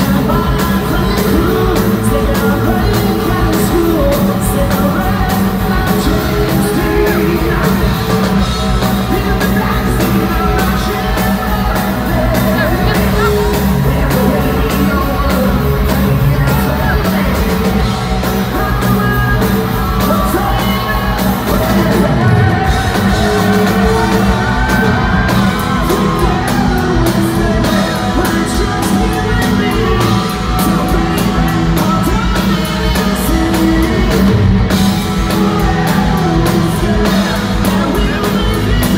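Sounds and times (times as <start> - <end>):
hard rock band playing: 0.0 - 38.9
person singing: 0.0 - 38.9.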